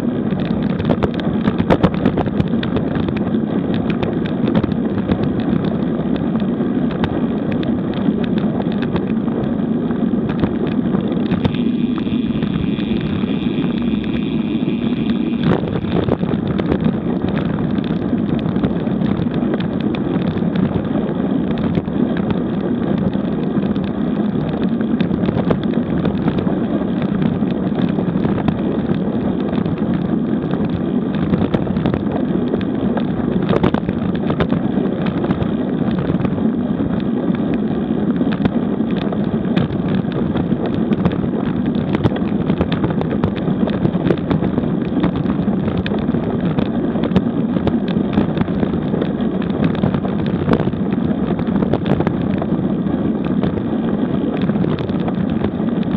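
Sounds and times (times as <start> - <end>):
bicycle tyre noise on asphalt: 0.0 - 55.9
wind rushing over microphone: 0.0 - 55.9.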